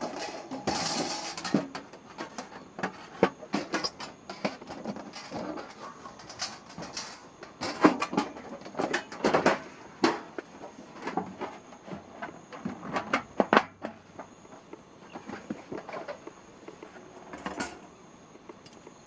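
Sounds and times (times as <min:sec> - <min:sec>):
objects knocking and rustling: 0:00.0 - 0:19.0.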